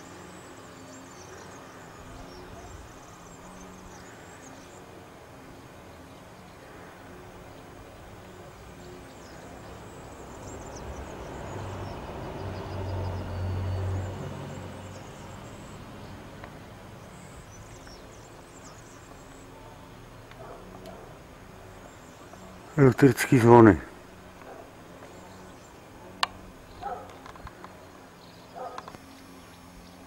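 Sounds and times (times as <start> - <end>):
vehicle engine rumble passing: 0.0 - 30.0.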